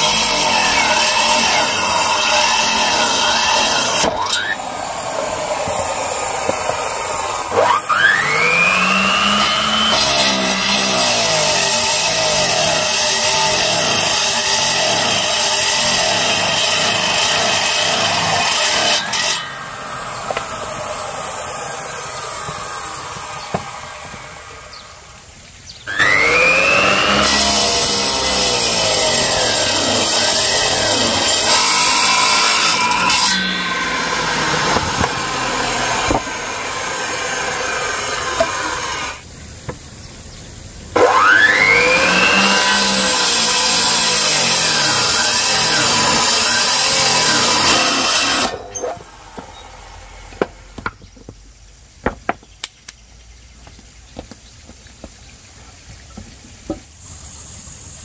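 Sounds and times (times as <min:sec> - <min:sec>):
power saw cutting wood: 0:00.0 - 0:25.0, 0:25.9 - 0:39.2, 0:41.0 - 0:50.9.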